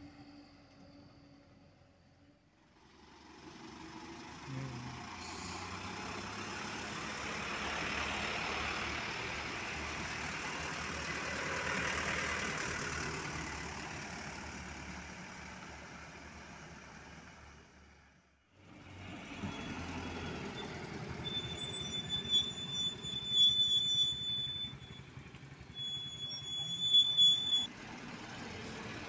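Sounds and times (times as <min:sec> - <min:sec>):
truck diesel engine passing: 0:00.0 - 0:29.0.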